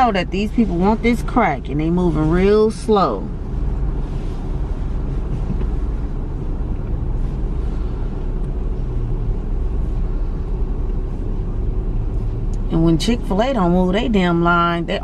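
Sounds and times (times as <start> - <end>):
car idling inside cabin: 0.0 - 15.0.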